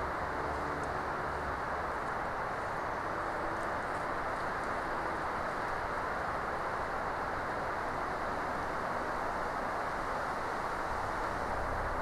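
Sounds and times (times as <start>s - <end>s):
wind rushing through forest: 0.0s - 12.0s.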